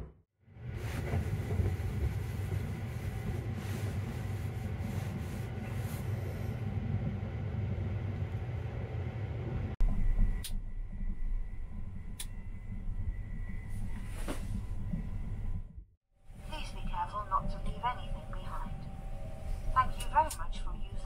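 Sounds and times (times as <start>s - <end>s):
train running rumble inside carriage: 0.0s - 21.0s.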